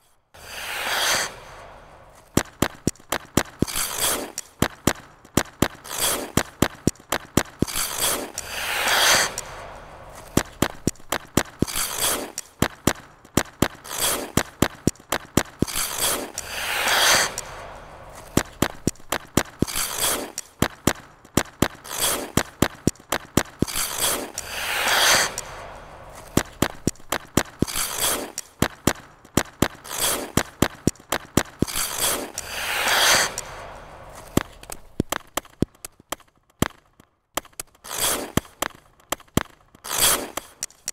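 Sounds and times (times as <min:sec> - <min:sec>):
skate blade scraping swish: 0:00.0 - 0:36.8, 0:37.4 - 0:40.9
skate blades tapping on ice: 0:00.0 - 0:40.9.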